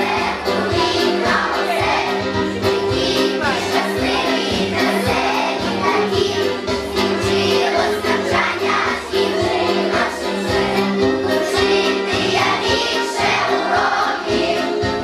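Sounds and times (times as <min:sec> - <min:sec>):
choir singing over instrumental backing: 0:00.0 - 0:15.0.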